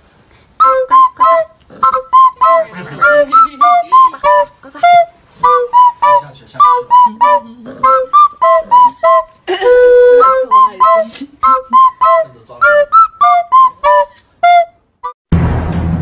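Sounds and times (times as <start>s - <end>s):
bouncy flute-like melody: 0.6s - 15.2s.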